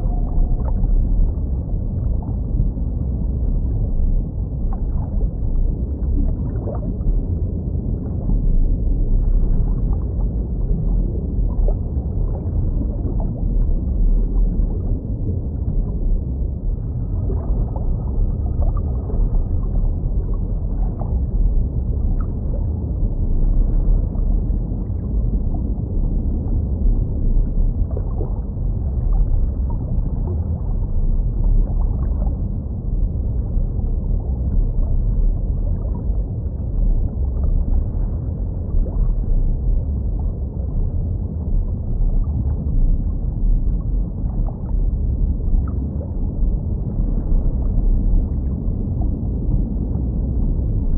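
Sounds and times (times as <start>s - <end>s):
muffled underwater rumble: 0.0s - 50.9s.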